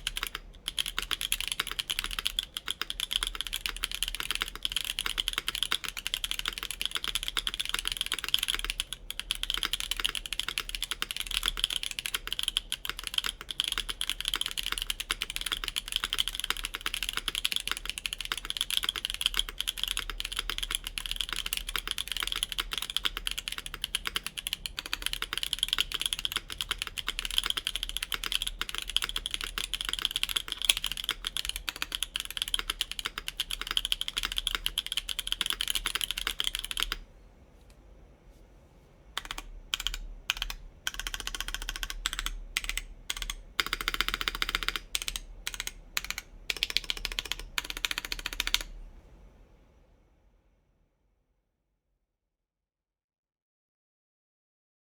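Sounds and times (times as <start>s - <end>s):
fast typing on mechanical keyboard: 0.0s - 37.0s, 39.2s - 48.7s.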